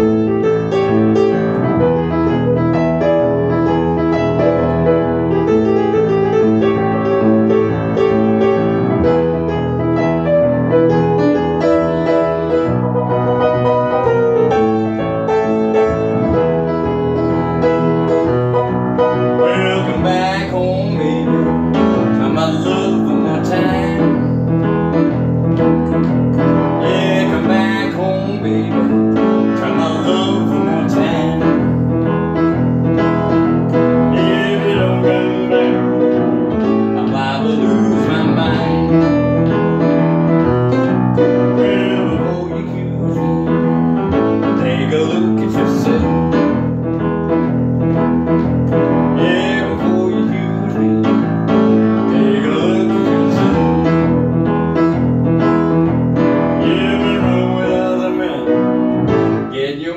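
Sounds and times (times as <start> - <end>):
piano playing blues: 0.0 - 59.9.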